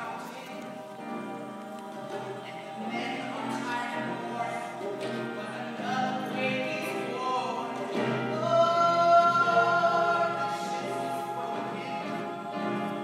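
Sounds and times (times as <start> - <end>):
group of voices singing: 0.0 - 13.0
piano accompaniment: 0.0 - 13.0.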